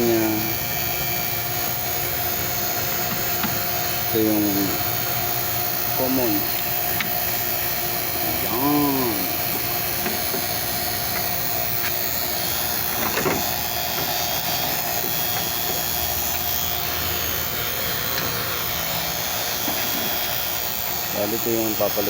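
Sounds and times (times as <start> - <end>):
steady machine drone: 0.0 - 22.0.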